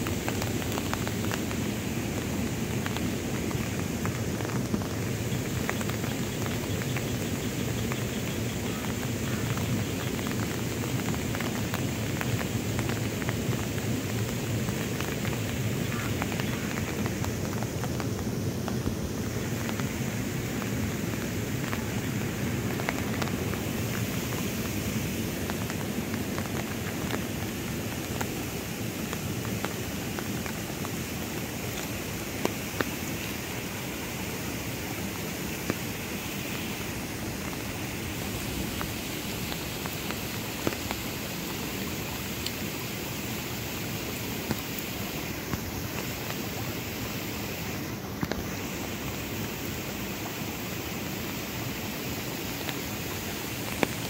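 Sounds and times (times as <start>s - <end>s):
flood water rushing: 0.0s - 54.0s.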